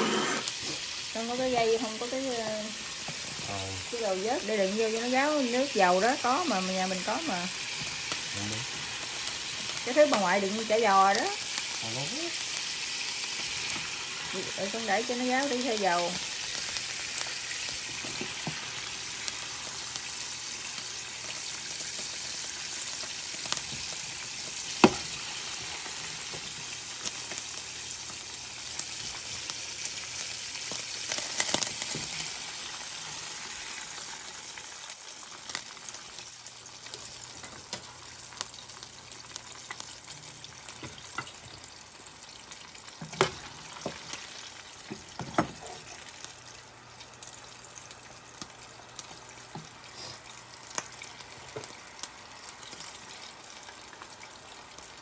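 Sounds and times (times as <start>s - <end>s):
chicken deep-frying sizzle: 0.0s - 55.0s.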